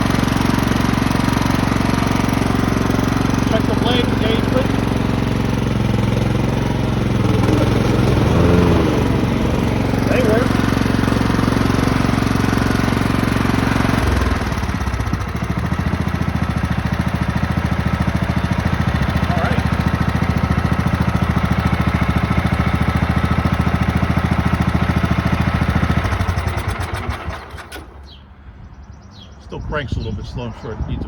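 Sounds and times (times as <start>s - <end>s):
lawn tractor engine running: 0.0s - 28.2s.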